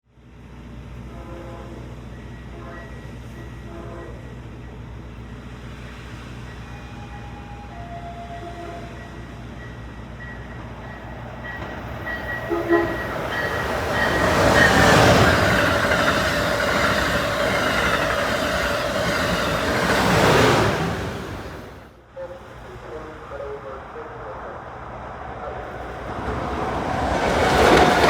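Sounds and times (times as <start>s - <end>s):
high-speed train passing: 0.2s - 28.0s.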